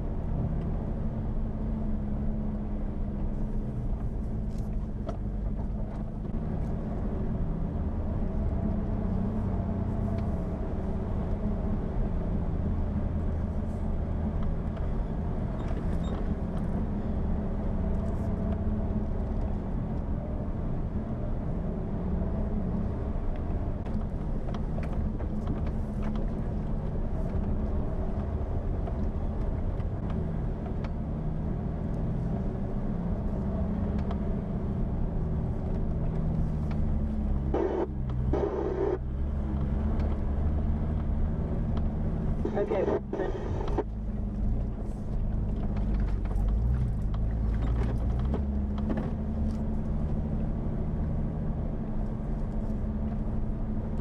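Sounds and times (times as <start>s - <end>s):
car engine running while driving: 0.0s - 54.0s.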